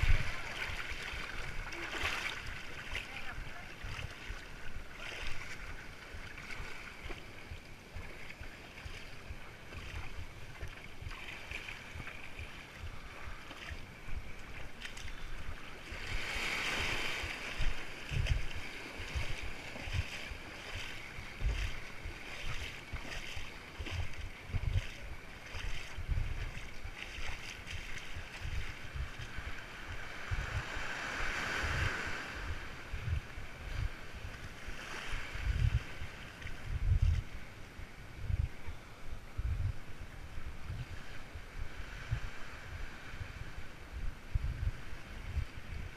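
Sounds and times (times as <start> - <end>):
shallow surf sloshing: 0.0 - 39.2, 39.8 - 45.9
wind buffeting microphone: 0.0 - 45.9.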